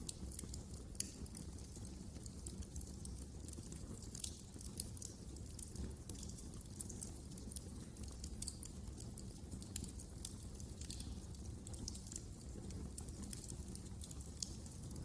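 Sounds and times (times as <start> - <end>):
fire crackling in fireplace: 0.0 - 15.0.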